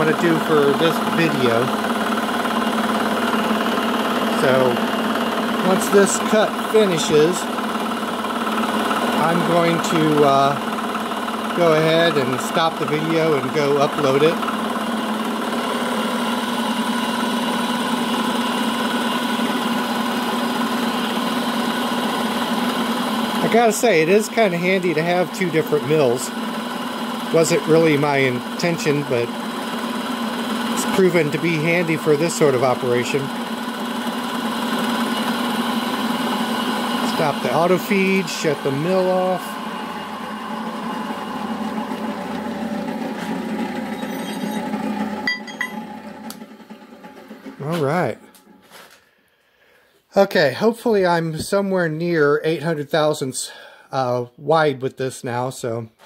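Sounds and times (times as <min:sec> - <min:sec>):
milling machine droning: 0:00.0 - 0:49.2.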